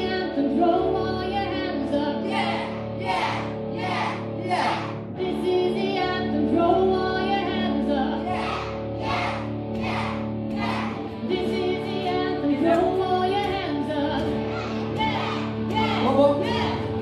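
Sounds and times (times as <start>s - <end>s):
person singing: 0.0s - 17.0s.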